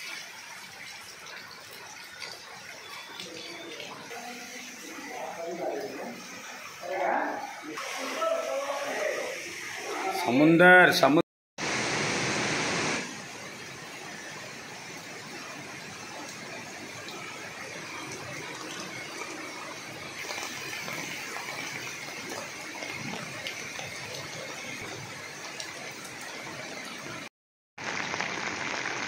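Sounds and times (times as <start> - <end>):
heavy rain pouring: 0.0 - 10.2, 11.6 - 29.0.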